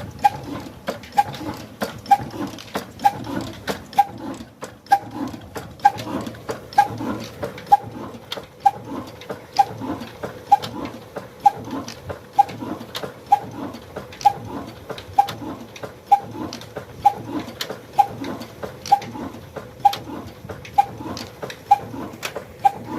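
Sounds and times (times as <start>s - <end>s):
engine knocks: 0.0s - 22.9s
single-cylinder engine chugging: 0.0s - 22.9s.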